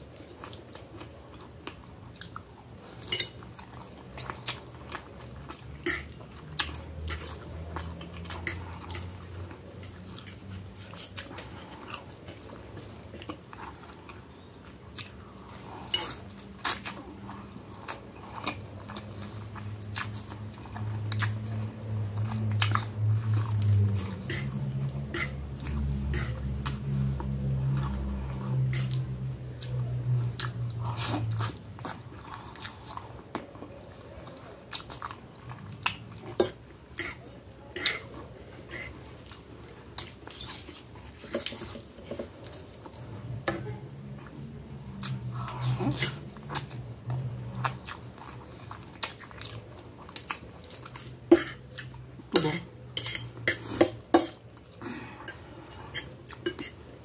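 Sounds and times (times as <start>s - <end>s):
wet chewing and mouth clicks: 0.0s - 56.8s.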